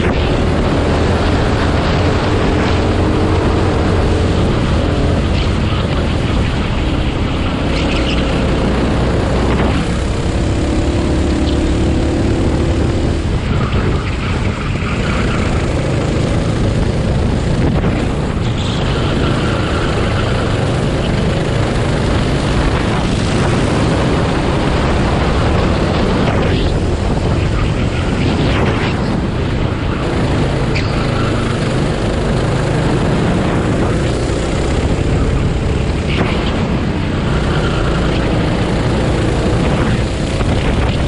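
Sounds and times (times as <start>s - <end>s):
go-kart engine revving: 0.0s - 41.0s
wind noise: 0.0s - 41.0s.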